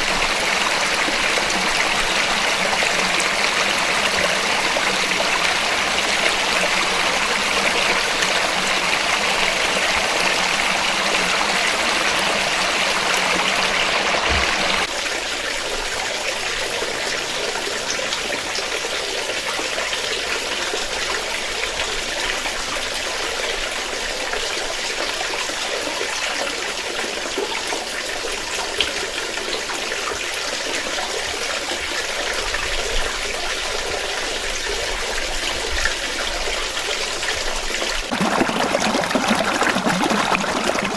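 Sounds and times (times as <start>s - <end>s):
water flowing in a stream: 0.0s - 40.9s.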